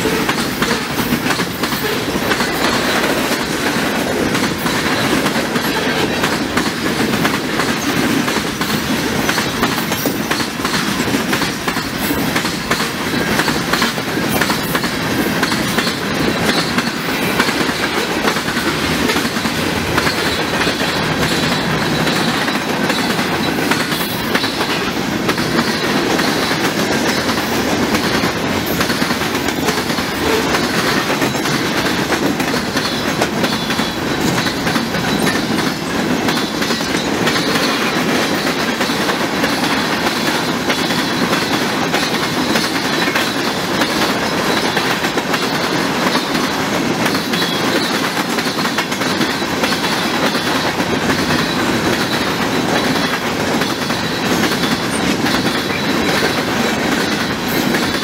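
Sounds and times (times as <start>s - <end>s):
train wheels rolling on rails: 0.0s - 58.0s
wheels clicking over rail joints: 0.0s - 58.0s.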